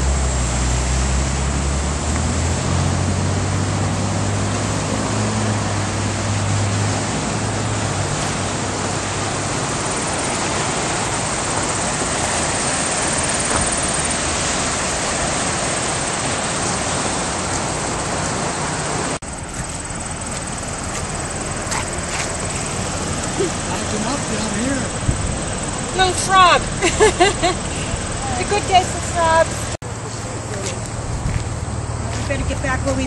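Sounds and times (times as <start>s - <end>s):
river water rushing: 0.0s - 30.4s.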